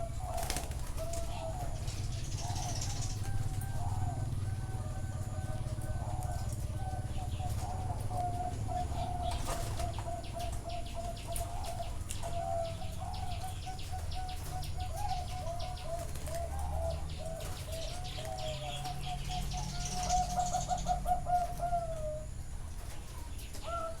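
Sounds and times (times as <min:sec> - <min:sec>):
doves cooing: 0:00.0 - 0:24.0.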